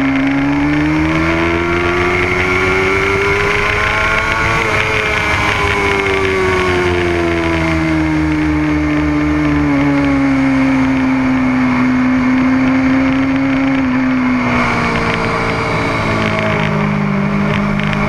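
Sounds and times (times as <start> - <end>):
heavy wind noise: 0.0 - 18.0
motorcycle engine: 0.0 - 18.0.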